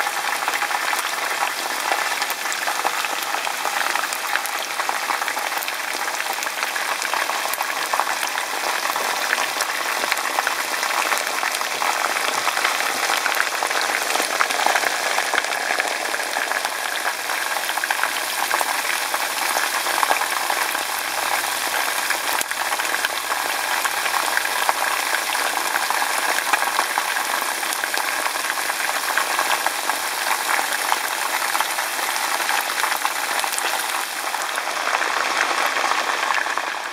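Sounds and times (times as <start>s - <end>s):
chicken sizzling in hot oil: 0.0s - 36.9s.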